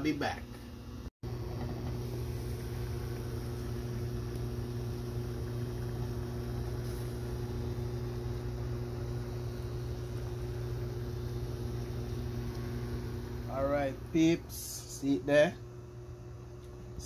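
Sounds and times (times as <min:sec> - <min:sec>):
appliance motor hum: 0:00.0 - 0:17.0.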